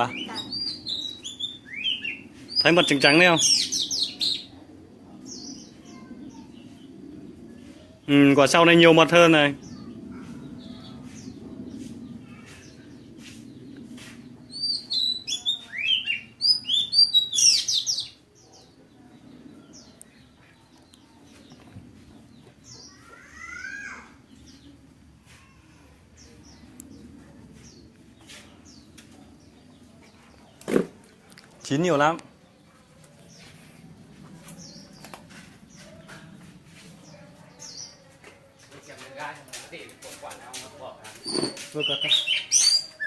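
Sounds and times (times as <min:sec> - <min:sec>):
low steady background noise: 0:00.0 - 0:43.0
small songbirds chirping: 0:00.0 - 0:43.0.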